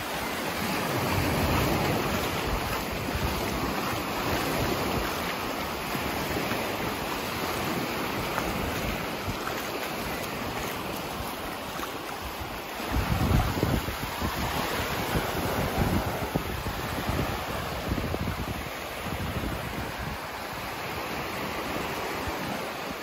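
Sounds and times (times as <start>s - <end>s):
wind buffeting microphone: 0.0s - 22.9s
small waves washing on sand: 0.0s - 23.0s.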